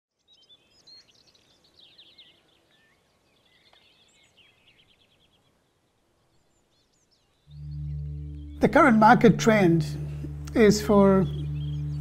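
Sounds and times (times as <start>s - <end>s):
faint birdsong: 0.1s - 12.0s.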